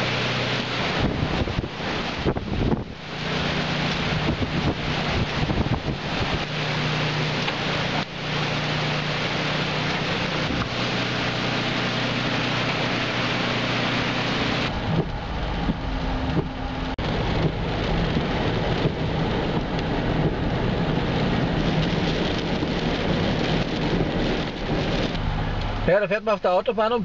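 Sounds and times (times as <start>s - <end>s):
car driving through water: 0.0s - 27.0s
heavy rain: 0.0s - 27.0s
hurricane wind: 0.0s - 27.0s.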